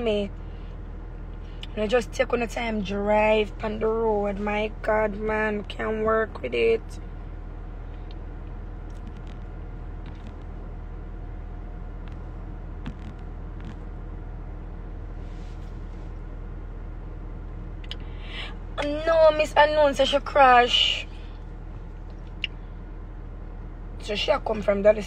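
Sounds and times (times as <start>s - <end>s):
car cabin rumble: 1.1s - 25.0s.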